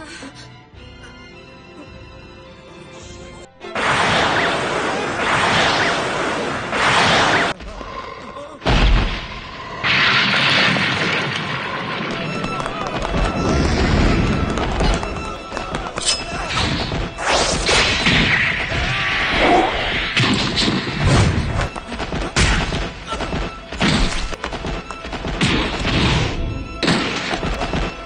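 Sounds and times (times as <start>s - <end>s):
background music: 0.0s - 9.2s, 9.8s - 28.0s.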